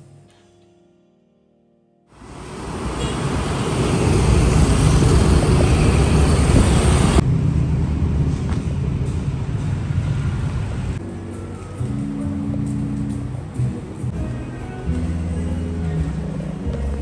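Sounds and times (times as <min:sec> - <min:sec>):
traffic and engine noise: 0:02.2 - 0:17.0.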